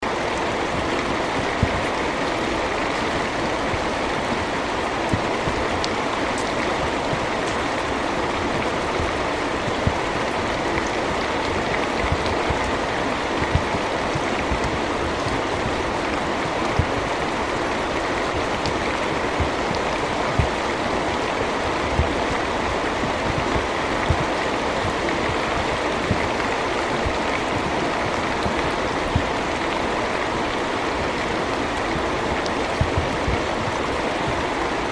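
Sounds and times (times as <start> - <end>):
steady rainfall hiss: 0.0 - 34.9.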